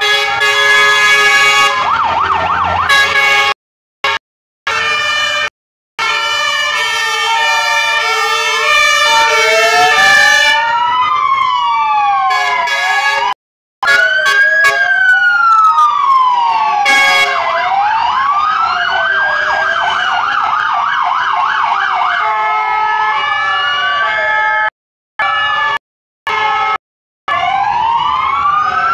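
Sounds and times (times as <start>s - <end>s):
yelping siren: 0.0s - 3.3s, 4.8s - 28.9s
two-tone hi-lo siren: 0.0s - 28.9s
wailing sirens: 0.0s - 28.9s.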